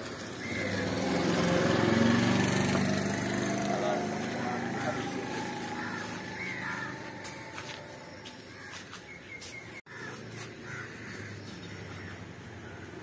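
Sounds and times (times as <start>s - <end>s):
market background noise: 0.0s - 13.0s
birds chirping: 0.1s - 13.0s.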